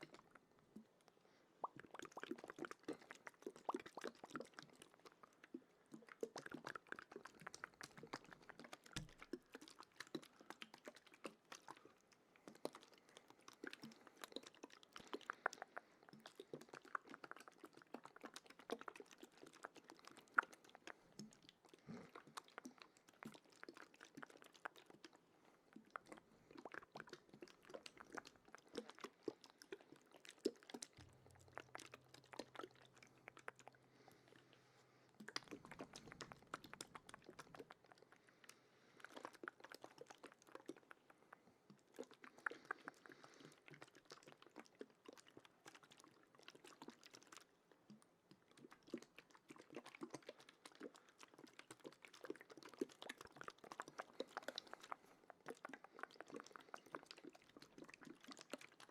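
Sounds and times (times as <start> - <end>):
wet mouth clicks and smacks: 0.0 - 58.9.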